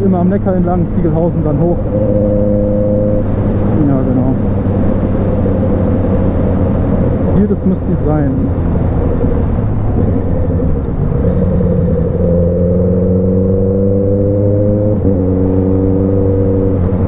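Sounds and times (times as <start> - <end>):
wind rumble on microphone: 0.4 - 17.0.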